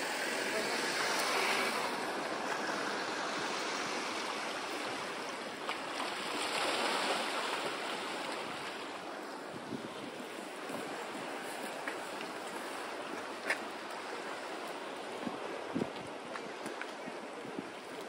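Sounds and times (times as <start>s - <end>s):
sea waves washing on shore: 0.0s - 18.0s.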